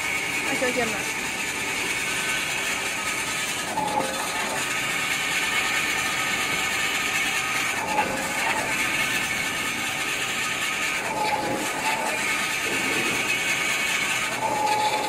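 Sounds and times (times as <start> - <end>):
band saw cutting paper roll: 0.0 - 15.0.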